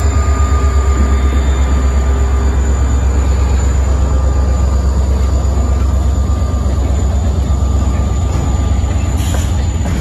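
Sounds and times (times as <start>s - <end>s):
diesel locomotive rumbling: 0.0s - 10.0s
freight cars rolling on rails: 0.0s - 10.0s.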